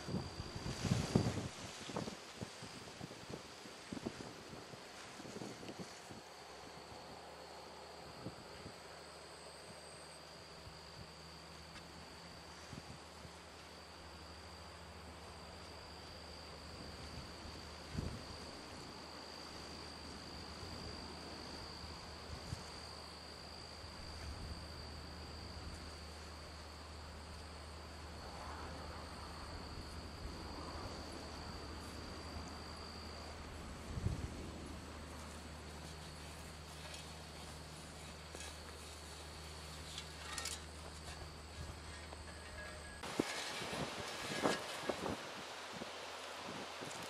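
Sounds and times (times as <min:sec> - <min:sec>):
high-pitched insect chorus: 0:00.0 - 0:47.0
low steady rumble: 0:02.5 - 0:47.0.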